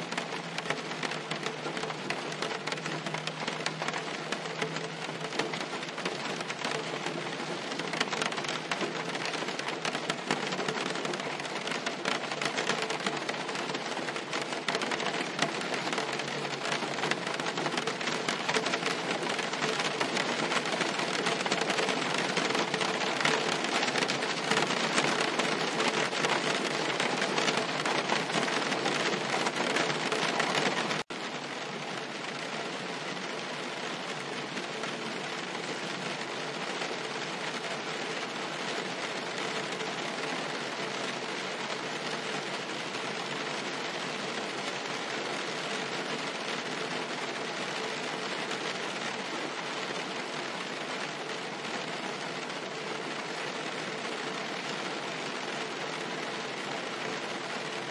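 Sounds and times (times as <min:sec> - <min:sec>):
rain on a car roof: 0:00.0 - 0:57.9.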